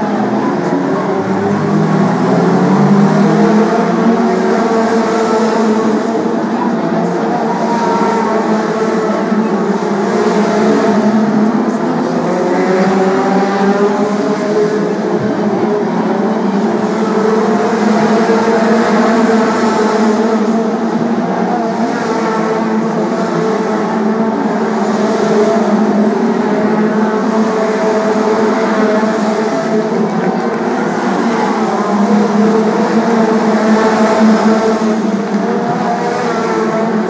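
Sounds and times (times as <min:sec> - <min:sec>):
racing car engines revving: 0:00.0 - 0:37.0.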